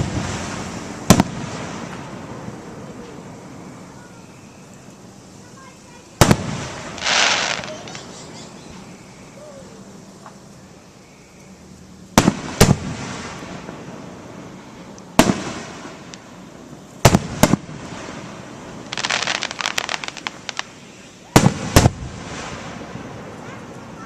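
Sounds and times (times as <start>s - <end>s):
fireworks booming: 0.0s - 10.6s, 12.1s - 24.0s
fireworks crackling: 0.0s - 24.0s.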